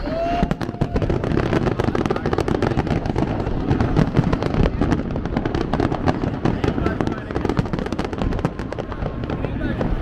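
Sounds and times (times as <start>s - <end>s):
fireworks crackling and banging: 0.0s - 10.0s.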